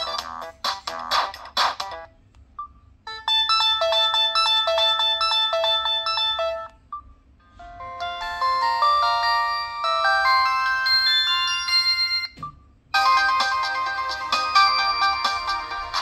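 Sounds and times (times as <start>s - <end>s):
electronic ringtone melody: 0.0s - 0.6s, 2.6s - 6.8s, 7.4s - 16.0s
ringtone tune of rising notes: 0.0s - 1.3s, 3.1s - 6.7s, 7.6s - 16.0s.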